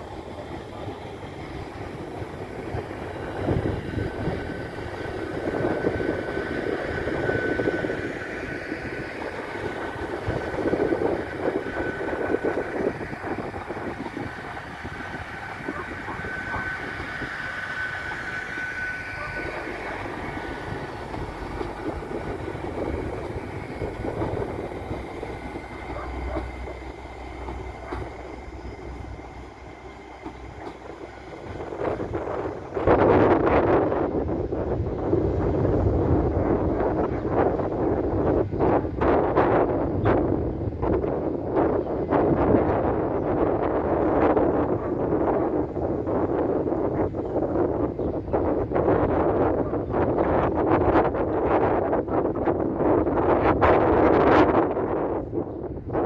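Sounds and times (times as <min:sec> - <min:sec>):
steady high whine: 0:00.0 - 0:47.5
diesel train engine drone: 0:00.0 - 0:56.0
wheel-on-rail rumble: 0:00.0 - 0:56.0.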